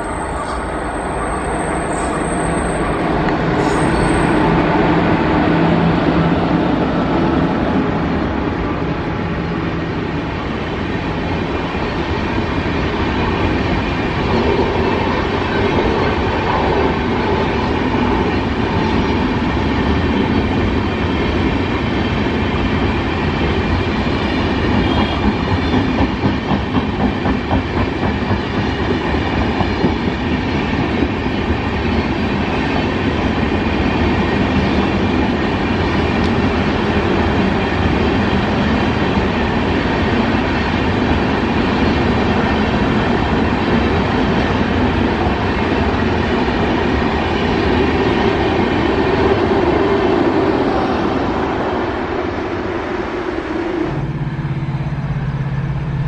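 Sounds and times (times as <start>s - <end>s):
train coaches rumbling: 0.0s - 56.0s.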